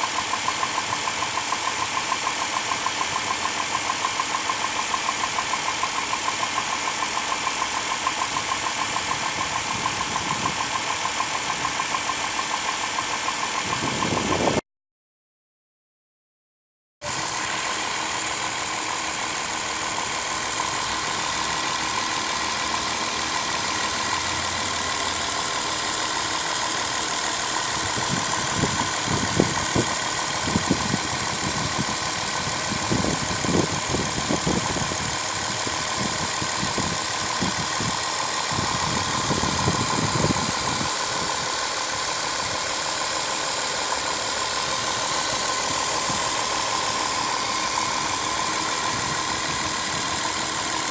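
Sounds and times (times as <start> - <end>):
car engine idling with knock: 0.0 - 14.6, 17.0 - 50.9.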